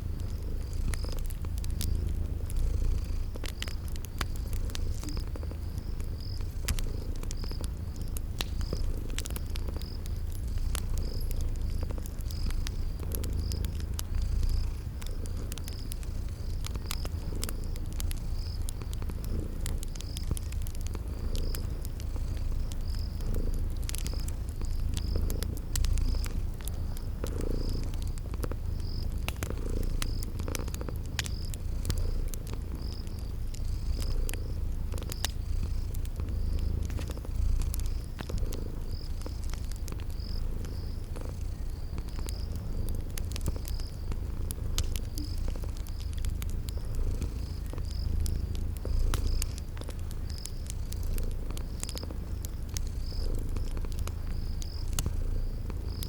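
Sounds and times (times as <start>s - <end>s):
cat purring: 0.0s - 56.0s
cricket chirping: 0.0s - 56.0s
fire crackling and popping: 0.0s - 56.0s.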